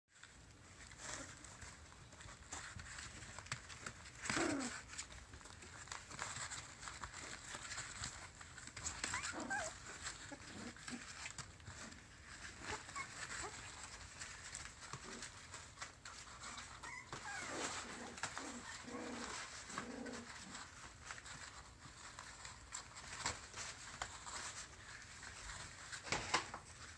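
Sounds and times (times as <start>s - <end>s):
rustle of wood shavings: 0.1s - 26.9s
puppies yelping and whining: 0.6s - 26.0s.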